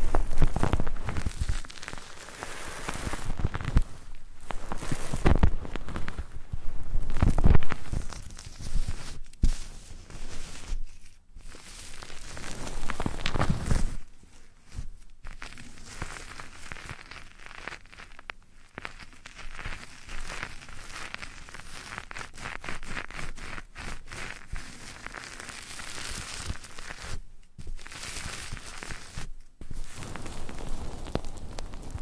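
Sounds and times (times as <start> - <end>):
close rustling and crackling: 0.0 - 32.0
small clicks and scratches: 0.0 - 32.0.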